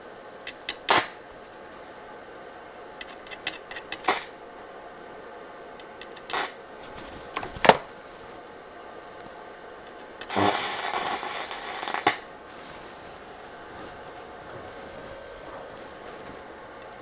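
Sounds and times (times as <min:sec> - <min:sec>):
faint steady hum: 0:00.0 - 0:17.0
welding clicks and crackles: 0:00.4 - 0:01.9, 0:03.0 - 0:04.7, 0:05.7 - 0:08.4, 0:09.0 - 0:17.0.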